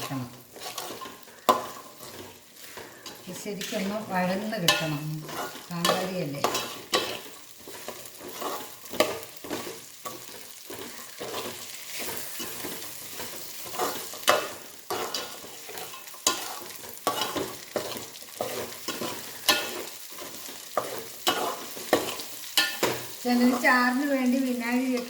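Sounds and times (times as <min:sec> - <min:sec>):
chillies sizzling in a pan: 0:00.0 - 0:25.0
spoon scraping a pan: 0:00.0 - 0:25.0.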